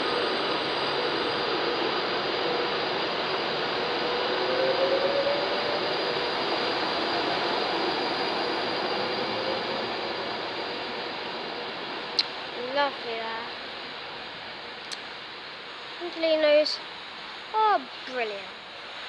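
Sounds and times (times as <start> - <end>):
faint hum: 0.0 - 19.0
train wheel and rail noise: 0.0 - 19.0.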